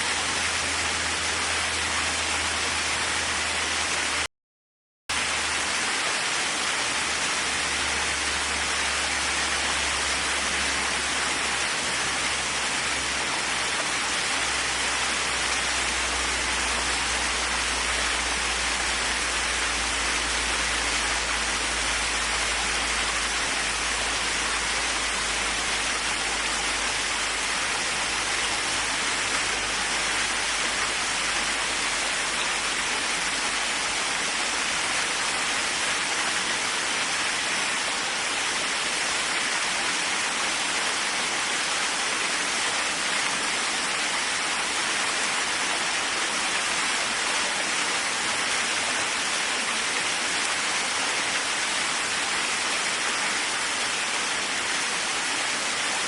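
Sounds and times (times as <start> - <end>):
waterfall rushing: 0.0 - 4.3, 5.1 - 56.0.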